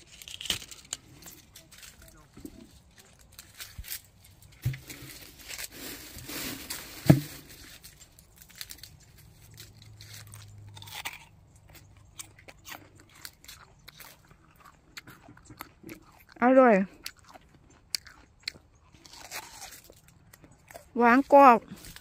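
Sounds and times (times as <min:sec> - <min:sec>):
crunching and chewing fruit: 0:00.0 - 0:22.0.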